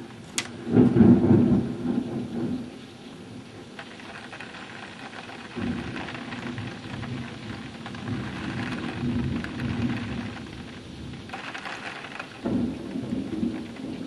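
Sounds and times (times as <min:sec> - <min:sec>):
low rumble of thunder: 0:00.0 - 0:14.0
rain falling: 0:00.0 - 0:14.0.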